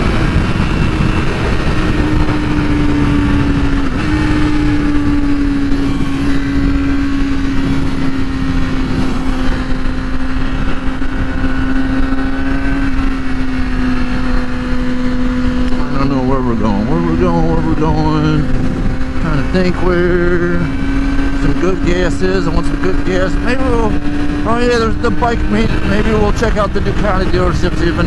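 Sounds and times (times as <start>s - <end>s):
motorcycle engine running: 0.0s - 28.0s
steady rushing noise: 0.0s - 28.0s.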